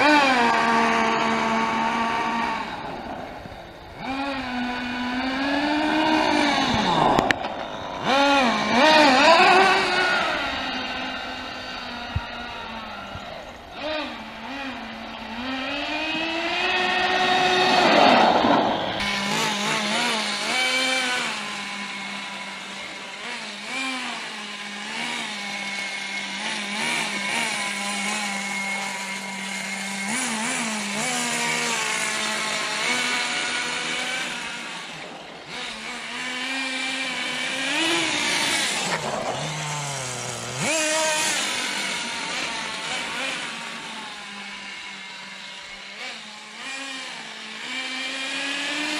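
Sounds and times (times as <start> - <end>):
toy truck engine revving: 0.0 - 48.9.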